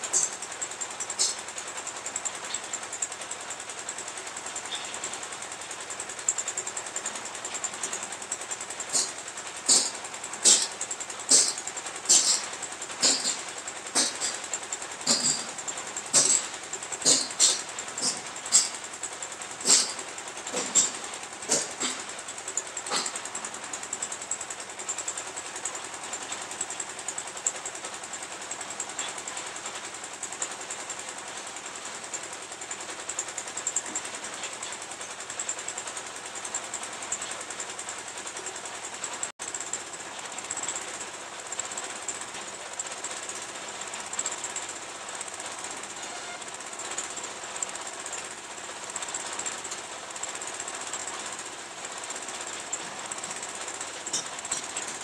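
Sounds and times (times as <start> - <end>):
small diesel engine clattering: 0.0 - 55.0.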